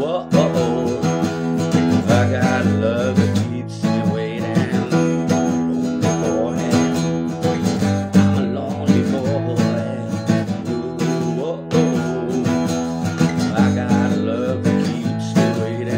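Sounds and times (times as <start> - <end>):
acoustic guitar strumming chords: 0.0 - 15.9.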